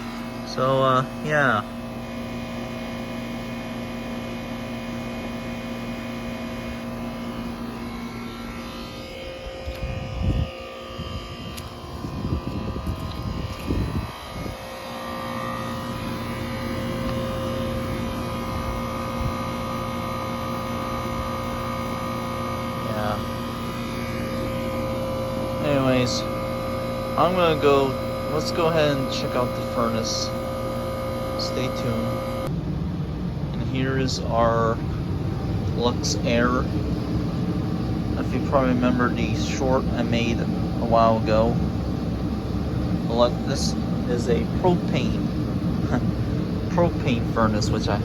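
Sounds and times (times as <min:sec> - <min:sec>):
air conditioner compressor hum: 0:00.0 - 0:48.0.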